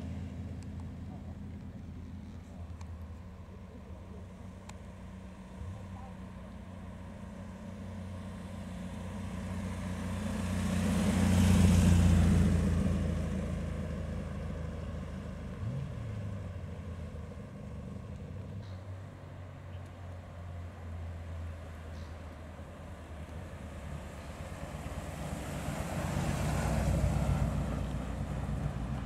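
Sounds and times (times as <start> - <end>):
car engine driving past: 0.0 - 29.0
second car engine running low: 0.0 - 29.0.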